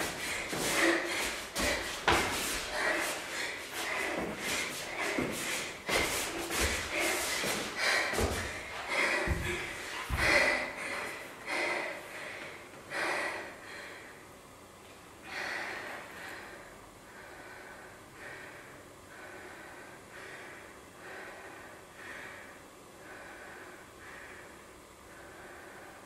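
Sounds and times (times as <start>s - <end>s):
person breathing hard: 0.0s - 14.4s, 15.2s - 26.0s.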